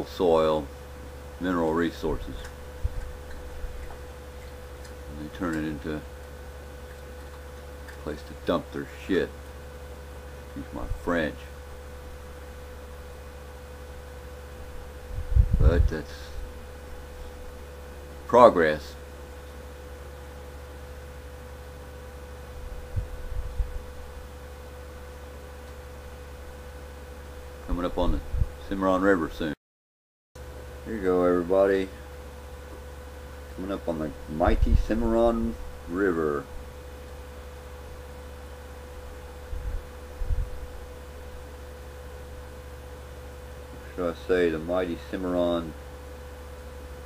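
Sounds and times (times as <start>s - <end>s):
low hum: 0.0s - 29.3s, 30.4s - 47.0s
faint whine: 0.0s - 29.6s, 30.4s - 47.0s.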